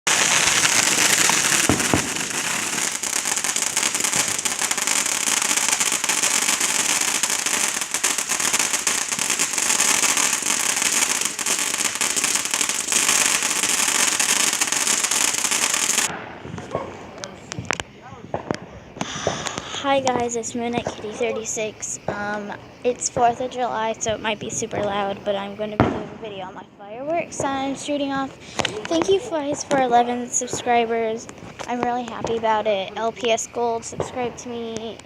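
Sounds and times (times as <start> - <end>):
fireworks crackling and hissing: 0.0 - 35.0.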